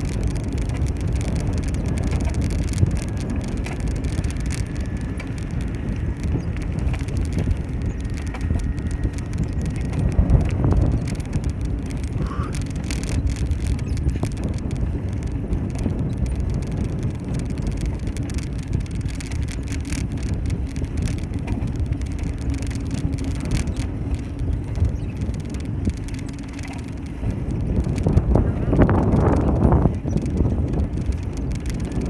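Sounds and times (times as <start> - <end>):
bicycle tyres rumbling: 0.0 - 32.0
bike rattles and clicks: 0.0 - 32.0
wind on microphone: 0.0 - 32.0.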